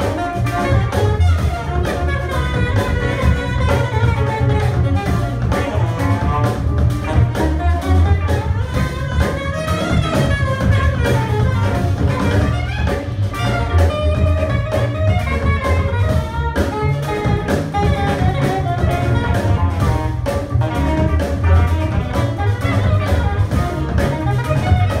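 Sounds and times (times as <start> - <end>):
double bass: 0.0 - 25.0
drum kit beat: 0.0 - 25.0
electric guitar: 0.0 - 25.0
saxophone: 0.0 - 25.0.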